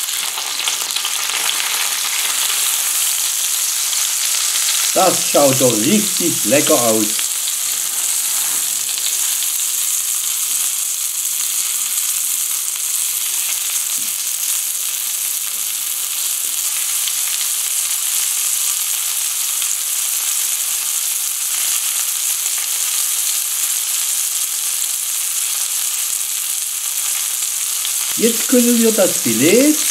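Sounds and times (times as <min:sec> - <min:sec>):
fish sizzling in a pan: 0:00.0 - 0:29.9.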